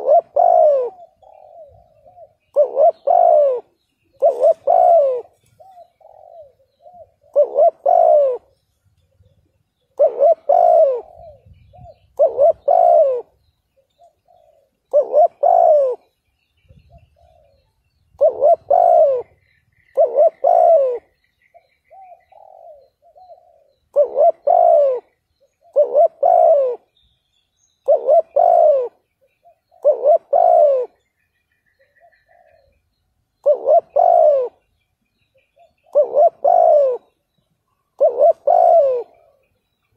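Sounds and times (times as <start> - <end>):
dove cooing: 0.0 - 27.1, 27.8 - 39.9.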